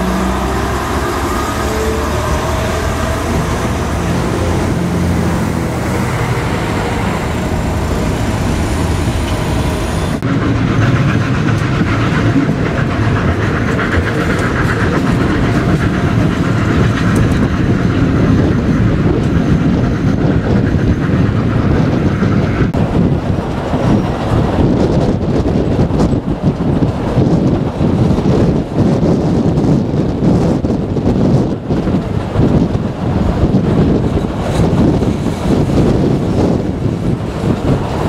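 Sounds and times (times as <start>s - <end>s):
railcar running: 0.0s - 38.0s
train wheels rolling on rails: 0.0s - 38.0s.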